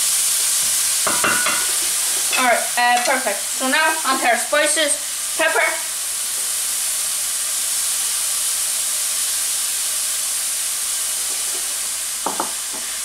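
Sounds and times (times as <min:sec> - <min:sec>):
tofu sizzling in oil: 0:00.0 - 0:13.0.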